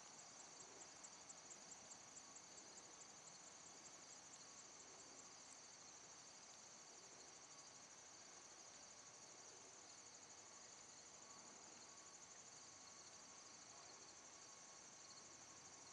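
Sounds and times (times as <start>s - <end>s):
crickets chirping: 0.0s - 15.9s
low background hiss: 0.0s - 15.9s.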